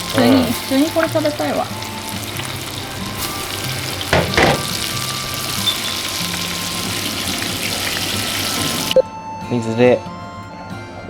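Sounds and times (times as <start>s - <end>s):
fish deep-frying in oil: 0.0s - 9.0s
oil crackles: 0.0s - 9.0s.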